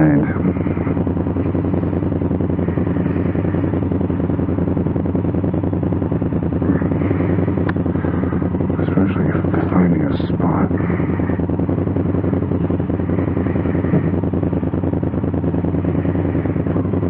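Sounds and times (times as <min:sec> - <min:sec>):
motorcycle engine running at low revs: 0:00.0 - 0:17.0.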